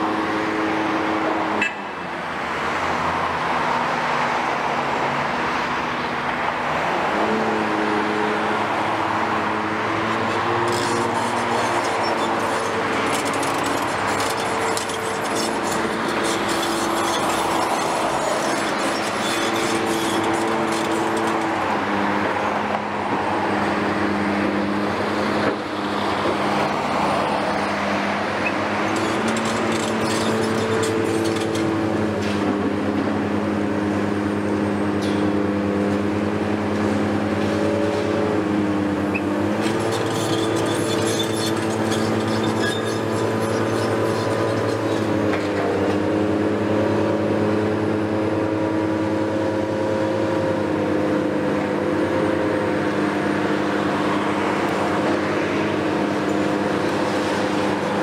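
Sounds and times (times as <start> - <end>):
diesel excavators running: 0.0 - 58.0.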